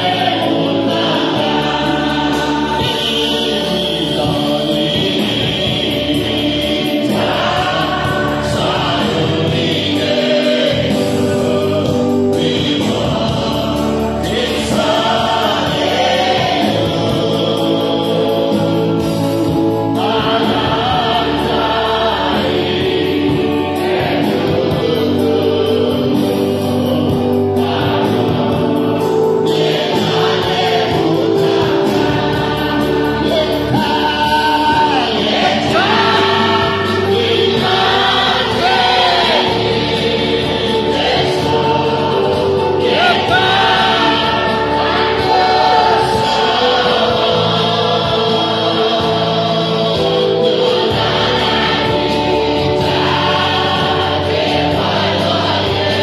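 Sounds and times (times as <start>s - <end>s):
group singing gospel song: 0.0s - 56.0s
instrumental backing: 0.0s - 56.0s.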